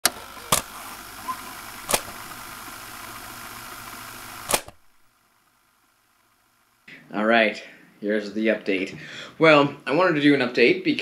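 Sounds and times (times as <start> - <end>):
tape static hiss: 0.0 - 11.0.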